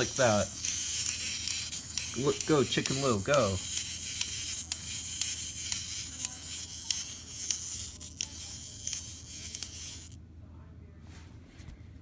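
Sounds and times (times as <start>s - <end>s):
clockwork toy motor whirring: 0.0s - 10.2s.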